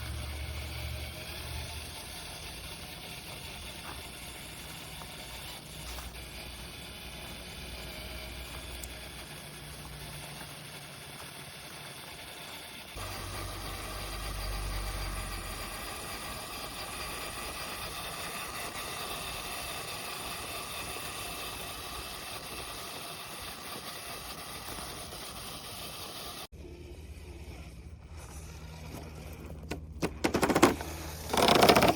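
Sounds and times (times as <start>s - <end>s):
toy car motor whining: 0.0s - 31.9s.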